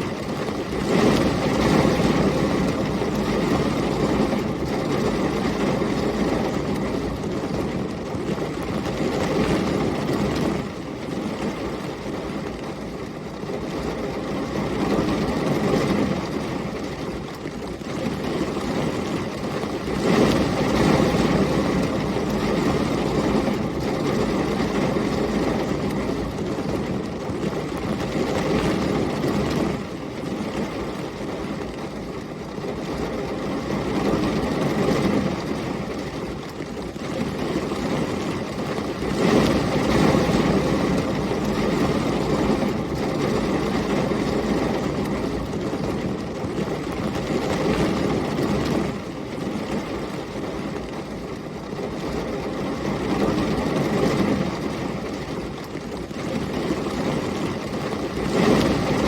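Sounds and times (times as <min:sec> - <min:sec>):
gusting storm wind: 0:00.0 - 0:59.0
heavy rain: 0:00.0 - 0:59.0.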